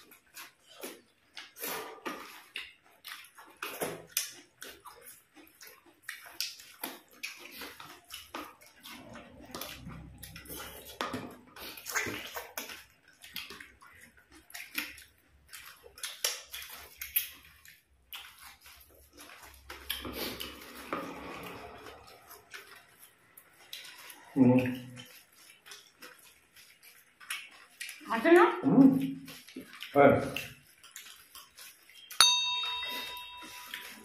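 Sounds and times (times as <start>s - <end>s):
chewing and lip smacking: 0.0s - 32.2s, 32.9s - 34.0s
small irregular clicks and crackles: 0.0s - 32.2s.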